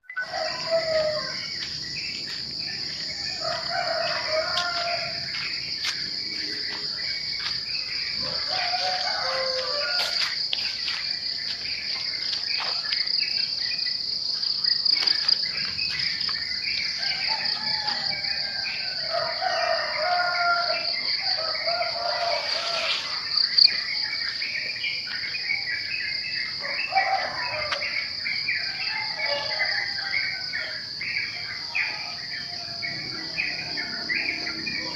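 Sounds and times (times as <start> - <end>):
birds calling and singing: 0.0 - 34.9
high-pitched insect trill: 0.1 - 34.9.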